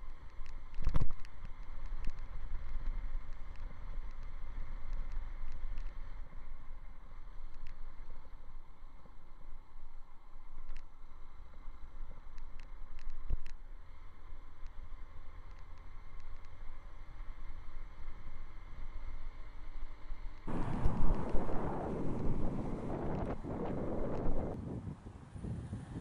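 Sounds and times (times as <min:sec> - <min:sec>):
faint clicks: 0:00.0 - 0:09.6, 0:10.2 - 0:17.0, 0:19.3 - 0:24.6
motorcycle rumble: 0:00.0 - 0:26.0.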